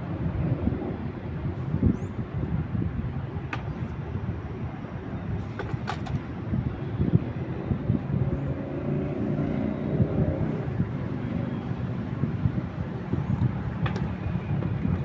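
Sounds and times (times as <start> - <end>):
city traffic rumble: 0.0 - 15.0
wind buffeting microphone: 0.0 - 15.0.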